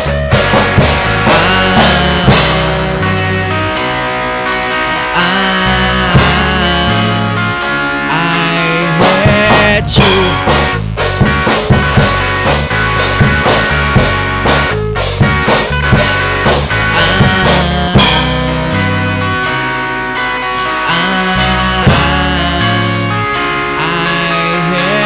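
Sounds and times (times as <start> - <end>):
instrumental rock music: 0.0 - 25.0.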